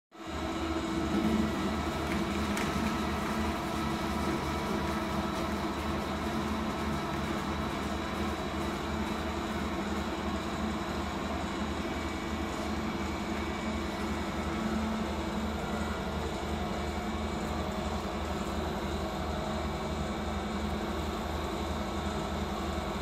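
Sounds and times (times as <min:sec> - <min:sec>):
slicing machine motor hum: 0:00.3 - 0:23.0.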